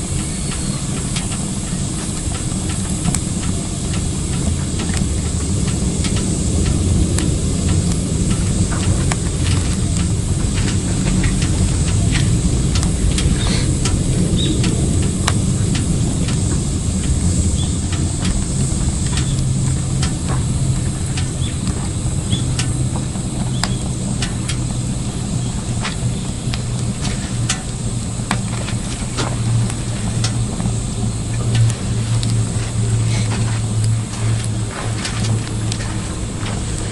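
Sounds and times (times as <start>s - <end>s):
firewood crackling and popping: 0.0s - 36.9s
low rumble of stove fire: 0.0s - 36.9s.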